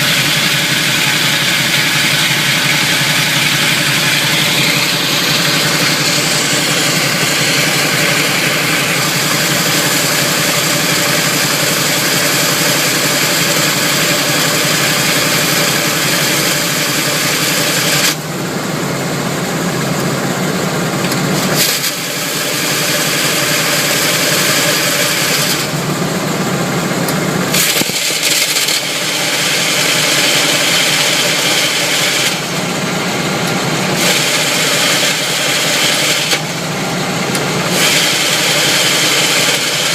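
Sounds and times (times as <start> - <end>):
harsh grinding rasp: 0.0 - 18.2, 21.4 - 25.8, 27.5 - 32.6, 33.9 - 36.5, 37.7 - 39.9
car engine idling: 0.0 - 39.9.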